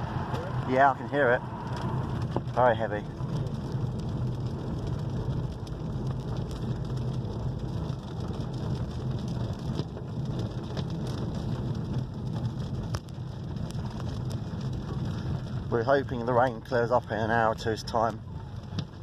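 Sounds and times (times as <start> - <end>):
engine and tyres on wet road: 0.0 - 19.0
heavy rain on car roof: 0.0 - 19.0.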